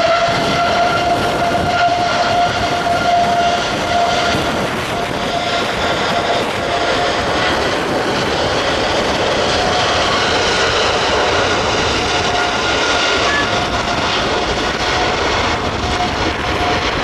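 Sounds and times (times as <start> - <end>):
faint engine whine: 0.0 - 17.0
jet engines roaring: 0.0 - 17.0.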